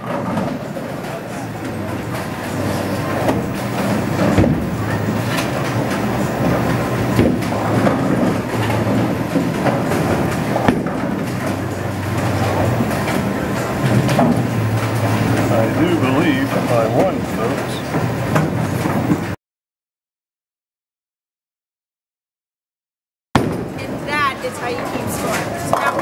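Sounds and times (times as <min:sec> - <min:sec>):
bowling balls rolling: 0:00.0 - 0:19.4, 0:23.4 - 0:26.0
bowling pins clattering: 0:00.0 - 0:19.4, 0:23.4 - 0:26.0.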